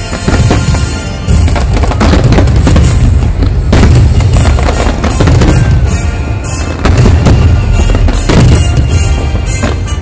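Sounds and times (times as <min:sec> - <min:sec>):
fireworks booming and crackling: 0:00.0 - 0:10.0
show music: 0:00.0 - 0:10.0.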